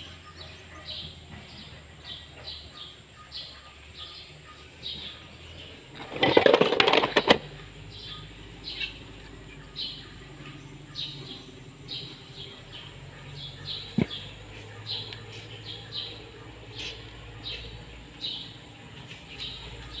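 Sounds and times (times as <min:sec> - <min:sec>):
low steady hum: 0:00.0 - 0:20.0
small bird chirping: 0:00.0 - 0:20.0.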